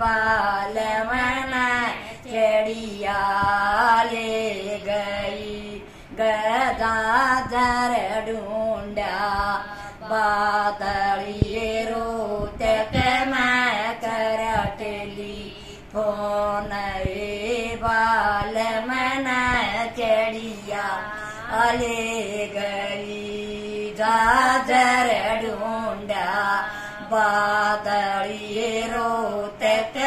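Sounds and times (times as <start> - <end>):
woman singing folk song: 0.0 - 30.0.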